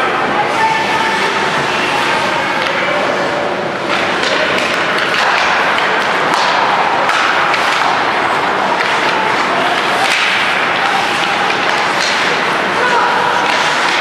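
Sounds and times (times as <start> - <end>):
hockey sticks and puck clacking: 0.0 - 14.0
skate blades scraping ice: 0.5 - 14.0.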